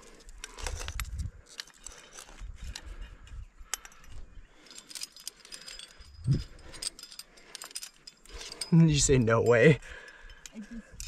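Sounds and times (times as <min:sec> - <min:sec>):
climbing gear jingling: 0:00.0 - 0:11.0.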